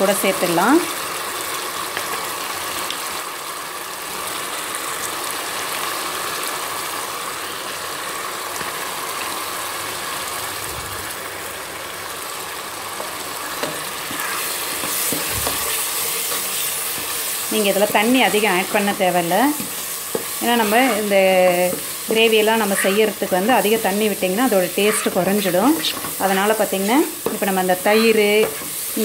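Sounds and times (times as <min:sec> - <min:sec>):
masala sizzling in oil: 0:00.0 - 0:29.0.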